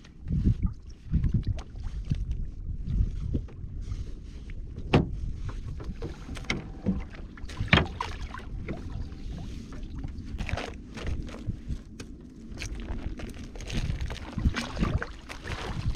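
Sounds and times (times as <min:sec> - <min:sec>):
wind rumbling on microphone: 0:00.0 - 0:15.9.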